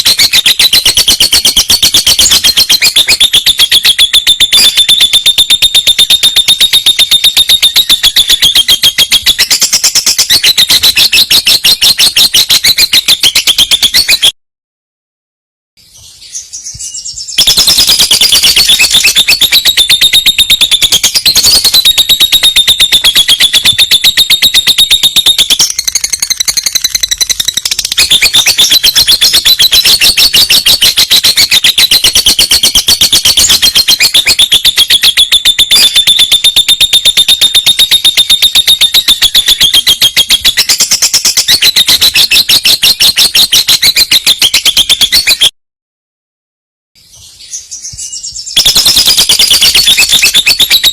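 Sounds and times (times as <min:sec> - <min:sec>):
lovebird singing rapid chatter: 0:00.0 - 0:14.3, 0:16.3 - 0:45.5, 0:47.5 - 0:50.9.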